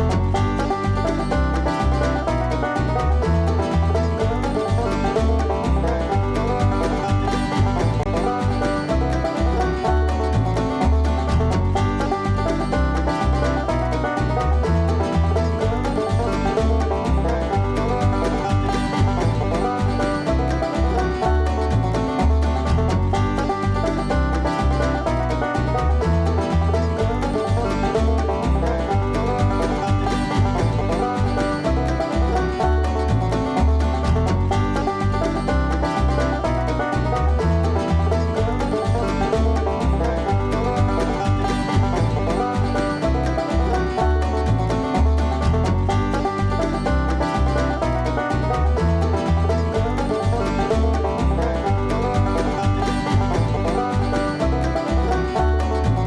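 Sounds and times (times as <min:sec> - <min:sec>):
plucked banjo: 0:00.0 - 0:56.0
steady bass beat: 0:00.0 - 0:56.0.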